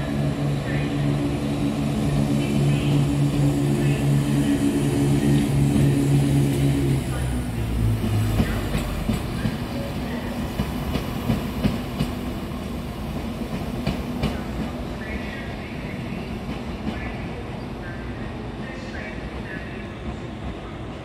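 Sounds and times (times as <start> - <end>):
diesel train engine rumble: 0.0 - 21.0.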